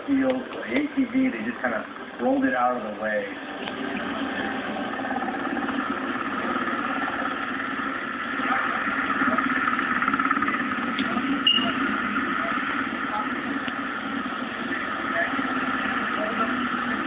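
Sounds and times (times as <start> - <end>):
engine running through tv speaker: 0.0 - 17.0.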